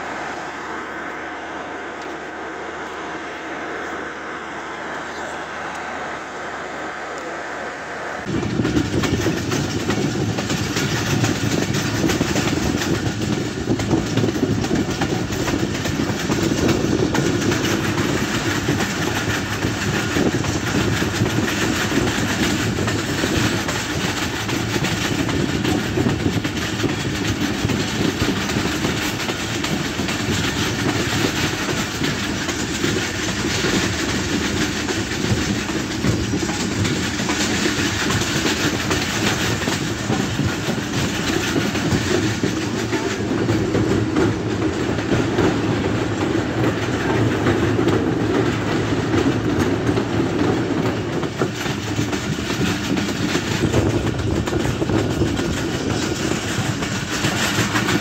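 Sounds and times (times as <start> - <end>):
train rumble: 0.0 - 58.0
wheels rattling on track: 6.9 - 58.0.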